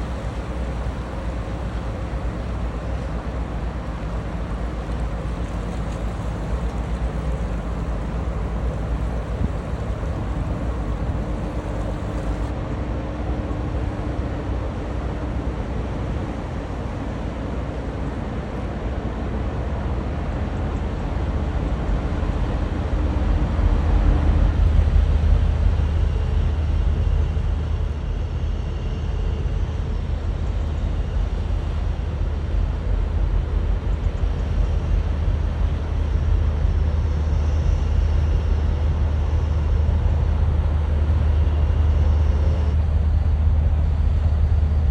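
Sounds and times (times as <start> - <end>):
faint hum: 0.0 - 44.9
ship engine rumble: 0.0 - 44.9.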